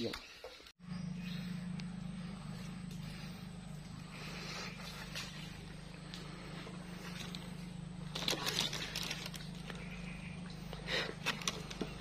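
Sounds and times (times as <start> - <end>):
steady low hum: 0.8 - 12.0
footsteps squelching through mud: 2.3 - 12.0.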